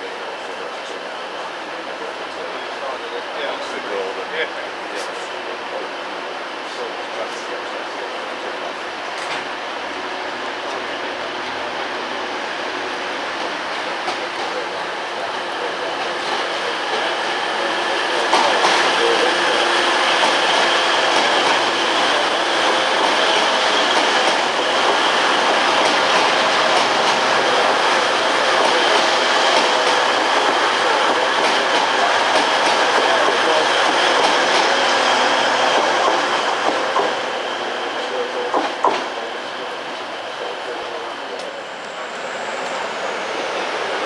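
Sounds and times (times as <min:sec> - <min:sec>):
train rumbling on rails: 0:00.0 - 0:44.0.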